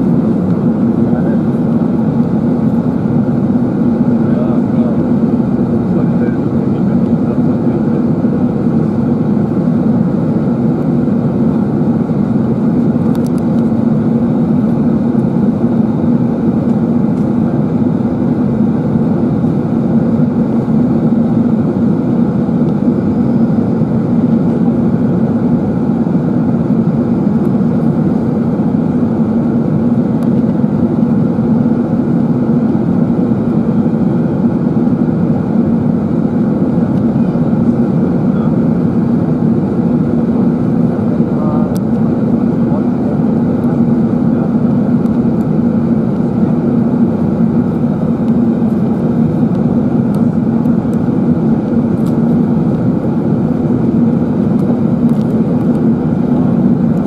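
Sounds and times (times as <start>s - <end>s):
aircraft cabin engine hum: 0.0s - 57.0s.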